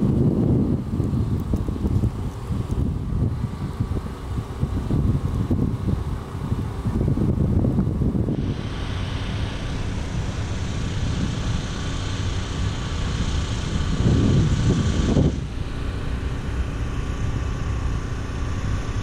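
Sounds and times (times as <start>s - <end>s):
engines and machinery rumbling: 0.0s - 19.0s
wind gust on microphone: 0.0s - 19.0s.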